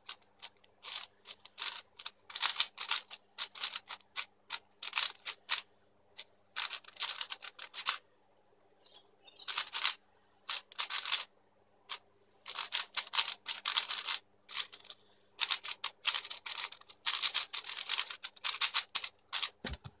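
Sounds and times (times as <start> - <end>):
speed cube clicking: 0.0 - 5.6, 6.6 - 8.0, 9.5 - 11.3, 11.9 - 19.9.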